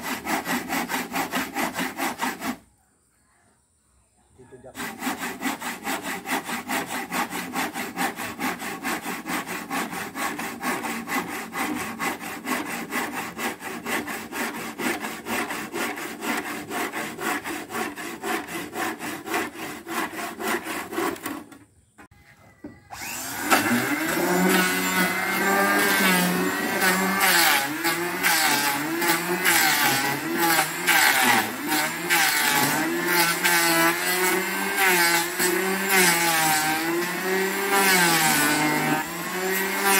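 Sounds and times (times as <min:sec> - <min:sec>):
handsaw cutting wood: 0:00.0 - 0:02.6, 0:04.6 - 0:21.6, 0:22.9 - 0:39.9
electric planer on wood: 0:04.8 - 0:21.5, 0:22.9 - 0:39.9.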